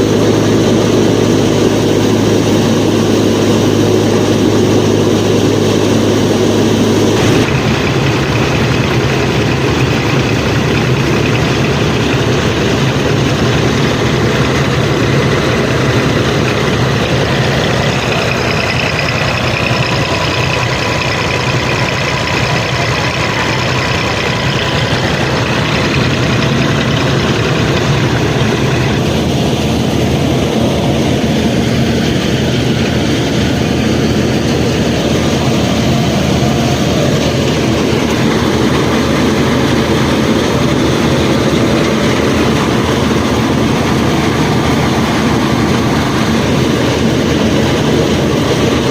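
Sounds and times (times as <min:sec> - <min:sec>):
machine running: 0:00.0 - 0:48.9.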